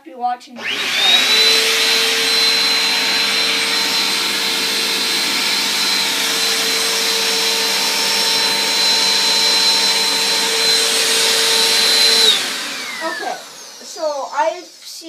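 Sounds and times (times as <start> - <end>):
vacuum cleaner whining: 0.6 - 15.0.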